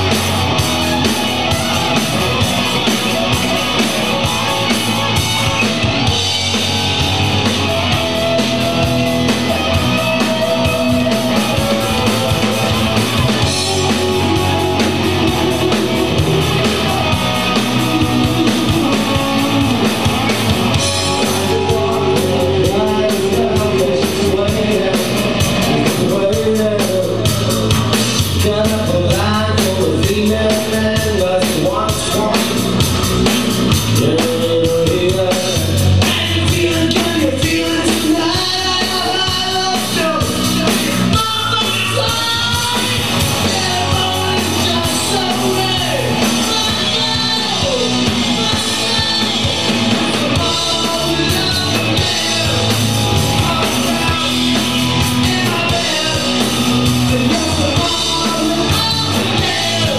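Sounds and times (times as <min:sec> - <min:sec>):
drums and cymbals: 0:00.0 - 0:59.9
rock band playing live: 0:00.0 - 0:59.9
person singing: 0:06.5 - 0:32.8, 0:34.0 - 0:59.9.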